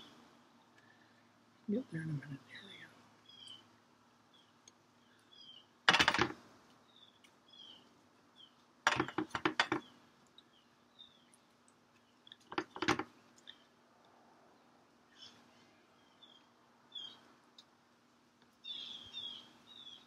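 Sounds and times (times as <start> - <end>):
small birds chirping: 0.0 - 13.9, 14.5 - 20.0.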